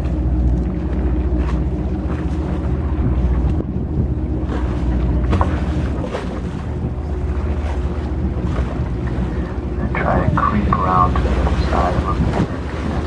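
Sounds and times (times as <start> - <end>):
boat engine running: 0.0 - 13.0
wind on microphone: 0.0 - 13.0.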